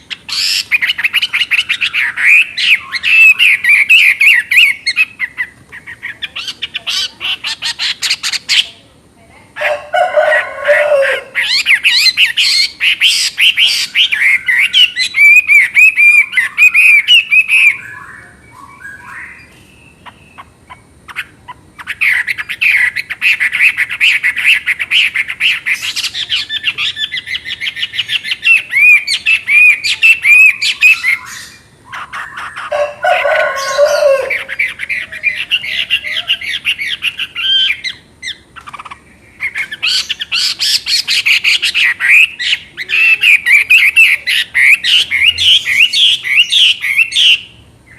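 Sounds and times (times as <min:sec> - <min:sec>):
bird singing whistled notes: 0:00.0 - 0:05.4, 0:11.4 - 0:20.4, 0:22.0 - 0:38.4, 0:39.5 - 0:47.5.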